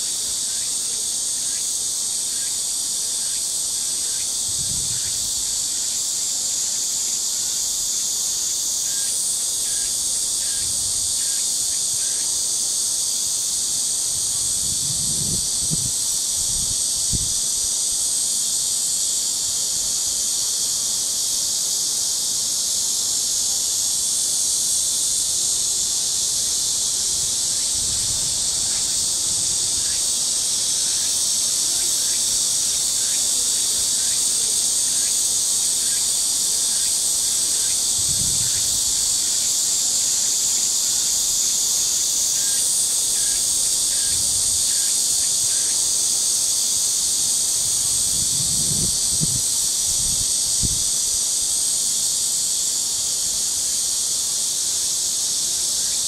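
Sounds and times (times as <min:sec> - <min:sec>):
cicadas chorus: 0:00.0 - 0:56.0.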